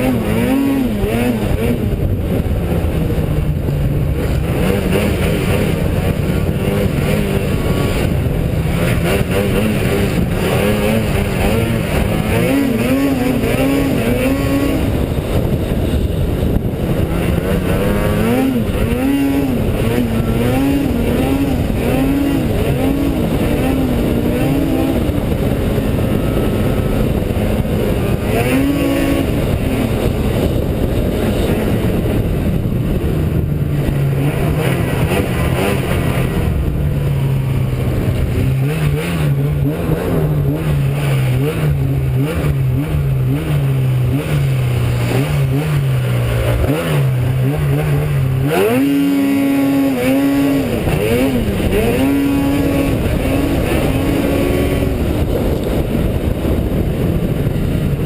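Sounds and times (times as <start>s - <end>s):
snowmobile engine running hard: 0.0s - 58.0s.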